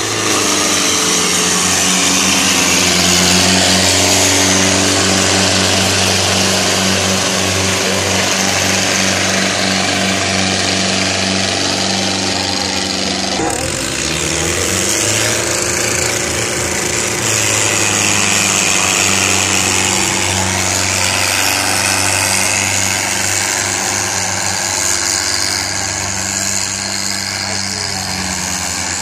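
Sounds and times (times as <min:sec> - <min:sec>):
tractor engine running loud: 0:00.0 - 0:29.0.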